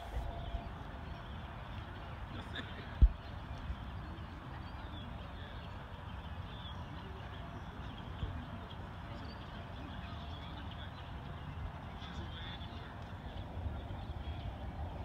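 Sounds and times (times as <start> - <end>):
faint distant sounds: 0.0 - 15.0.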